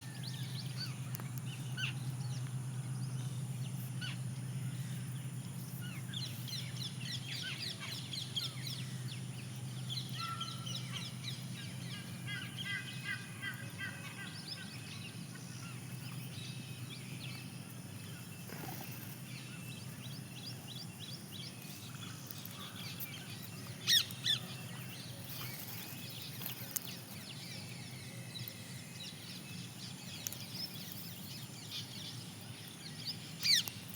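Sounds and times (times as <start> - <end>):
birds chirping and twittering: 0.0 - 33.9
steady low hum: 0.0 - 33.9.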